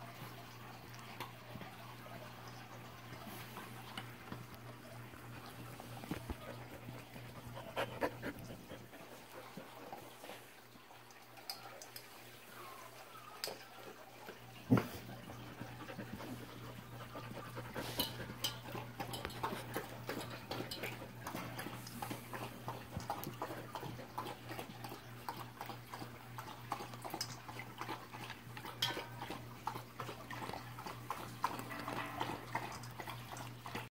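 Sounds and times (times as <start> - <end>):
puppies clicking and scuffling: 0.1 - 10.5, 13.4 - 33.9.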